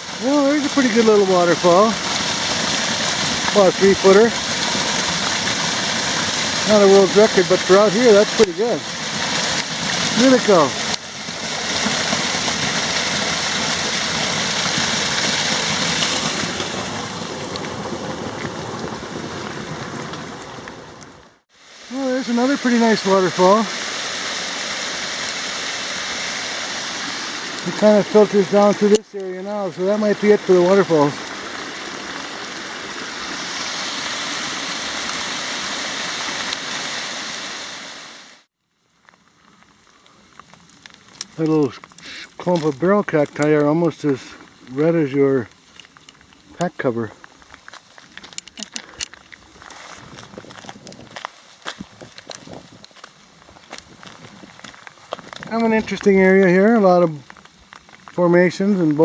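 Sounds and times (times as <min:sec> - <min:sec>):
water pouring over rock: 0:00.0 - 0:38.3, 0:38.9 - 0:59.0.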